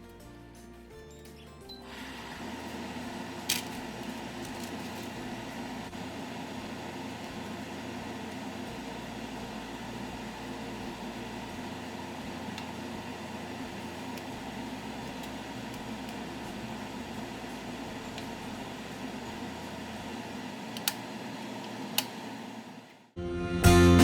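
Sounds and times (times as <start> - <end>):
fan motor whirring hum: 1.8 - 23.2.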